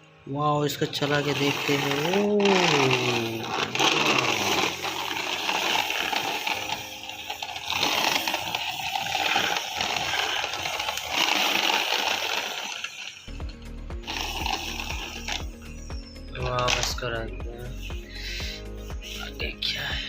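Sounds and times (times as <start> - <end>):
toy vehicle clicking rattle: 0.8 - 20.0.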